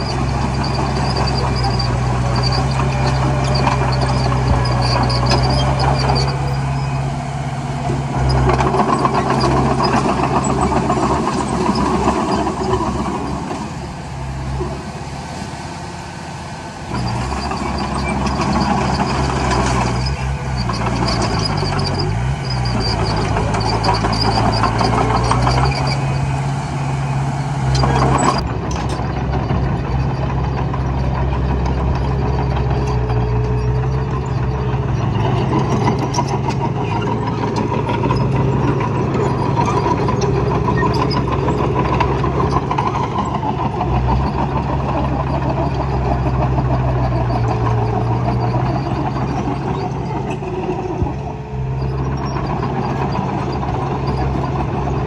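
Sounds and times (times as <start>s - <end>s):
heavy diesel engine running: 0.0s - 55.0s
loud machinery clatter: 0.0s - 55.0s.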